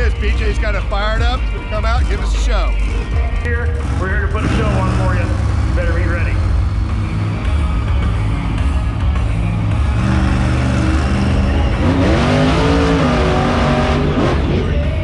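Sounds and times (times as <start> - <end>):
monster truck engine revving: 2.7 - 15.0.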